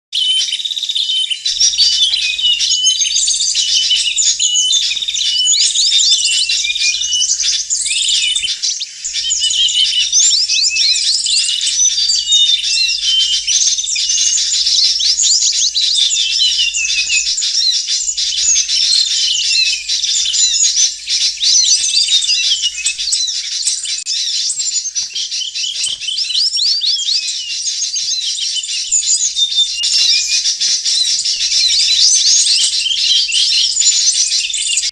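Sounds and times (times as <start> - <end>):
songbirds chirping: 0.2 - 34.9.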